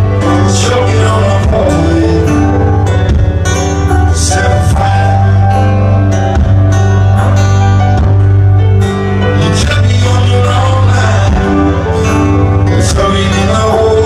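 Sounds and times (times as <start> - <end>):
guitars: 0.0 - 14.0
live band music: 0.0 - 14.0.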